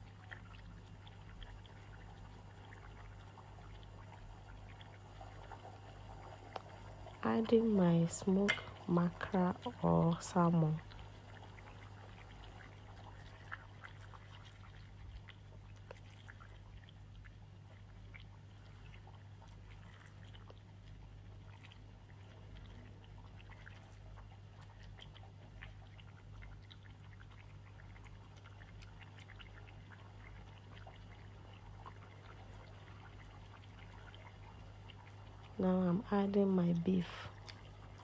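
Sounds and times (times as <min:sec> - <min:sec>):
steady low hum: 0:00.0 - 0:38.0
stew bubbling: 0:00.0 - 0:38.0.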